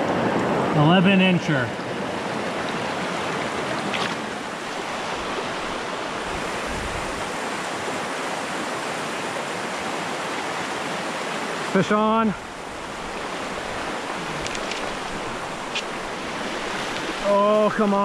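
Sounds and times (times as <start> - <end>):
stream running over rocks: 0.1 - 18.0.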